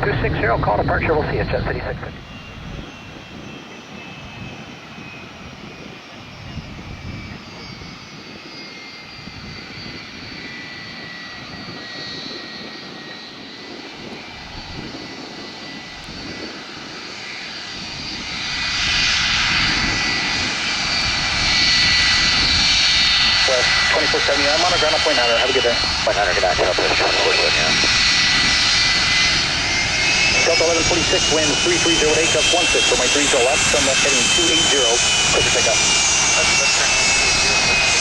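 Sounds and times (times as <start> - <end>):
jet engines whining: 0.0 - 38.0.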